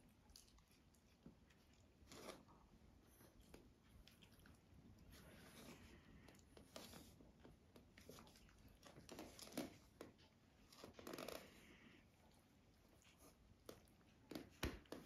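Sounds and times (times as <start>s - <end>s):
soft clicks and chewing: 0.0s - 15.0s.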